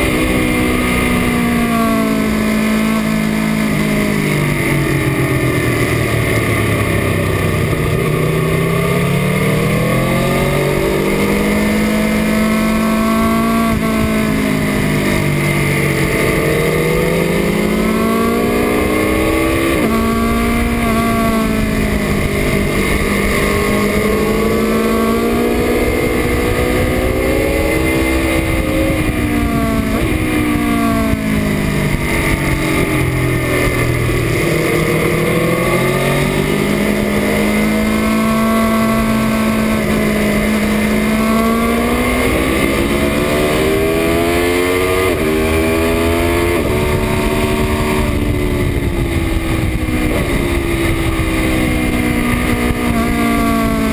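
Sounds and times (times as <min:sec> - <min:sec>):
motorcycle engine at speed: 0:00.0 - 0:53.9.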